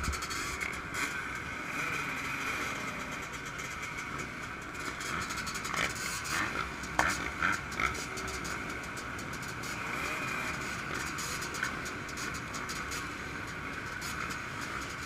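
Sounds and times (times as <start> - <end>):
two-stroke engine at high revs: 0.0 - 15.0.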